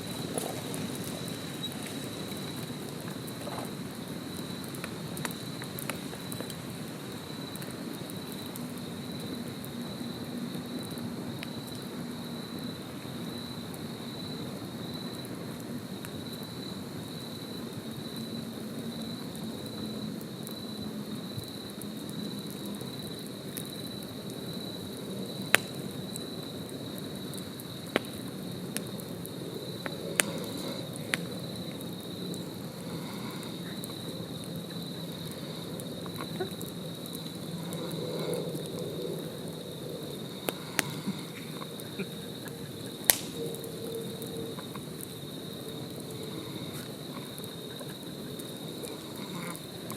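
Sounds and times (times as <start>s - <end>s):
campfire crackling and popping: 0.0s - 49.9s
high insect trill: 0.0s - 49.9s.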